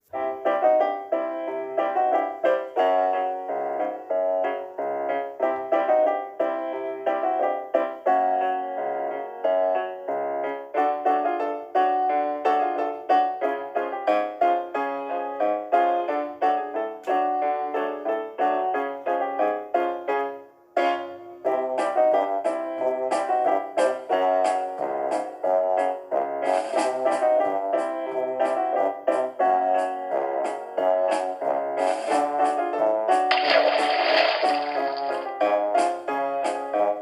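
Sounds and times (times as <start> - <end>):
piano music: 0.2 - 37.0.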